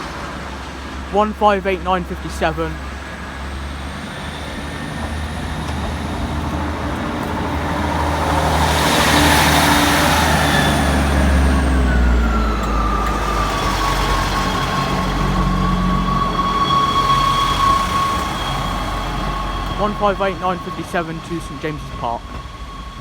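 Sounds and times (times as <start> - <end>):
diesel train engine hum: 0.0 - 23.0
train wheels on rails: 0.0 - 23.0.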